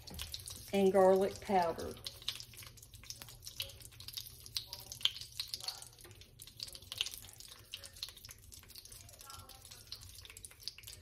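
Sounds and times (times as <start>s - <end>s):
sugar bubbling and sizzling in a pan: 0.0s - 11.0s.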